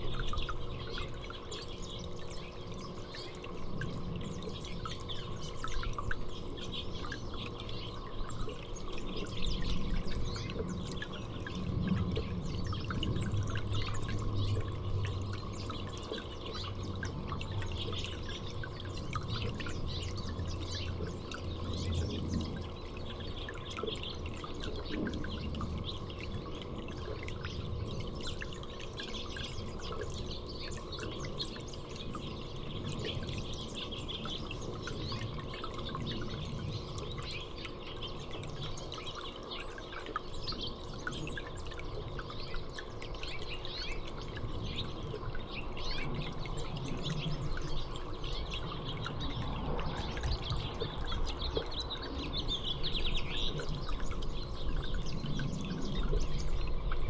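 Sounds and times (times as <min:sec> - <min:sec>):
songbirds chirping: 0:00.0 - 0:57.0
water trickling: 0:00.0 - 0:57.0.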